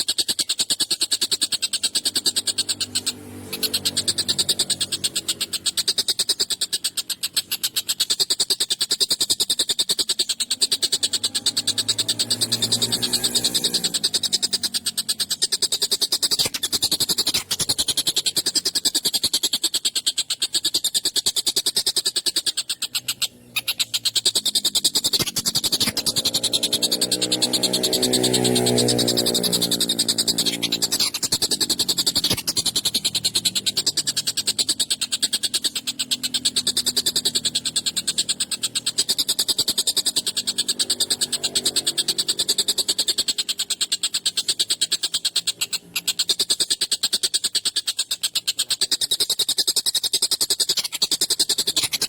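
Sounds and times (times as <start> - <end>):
kingfisher rattling trill: 0.0 - 52.0.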